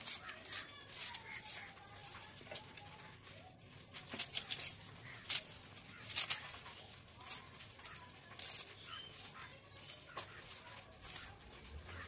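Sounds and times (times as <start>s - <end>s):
shallots crunching on a blade: 0.0s - 3.1s, 3.8s - 12.0s.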